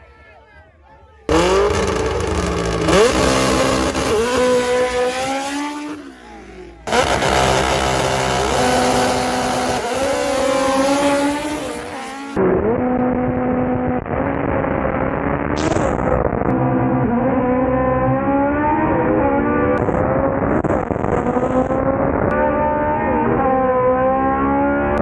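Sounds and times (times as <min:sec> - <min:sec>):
car engines revving: 0:01.3 - 0:25.0.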